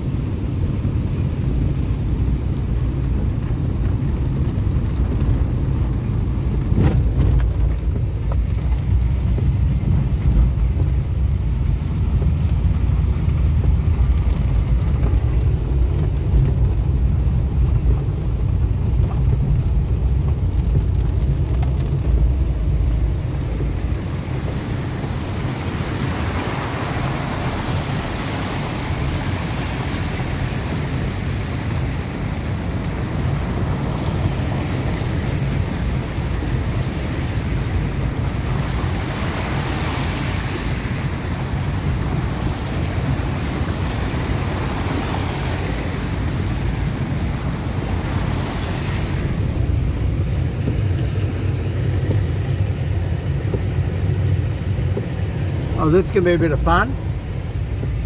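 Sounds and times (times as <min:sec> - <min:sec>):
rain and water hissing: 0:00.0 - 0:58.0
vehicle cabin rumble: 0:00.0 - 0:58.0.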